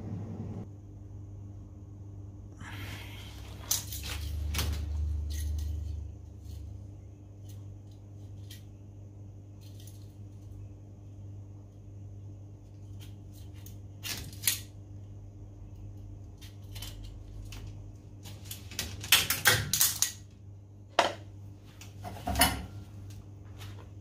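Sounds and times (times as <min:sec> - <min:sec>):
steady low hum: 0:00.0 - 0:19.0, 0:19.7 - 0:24.0.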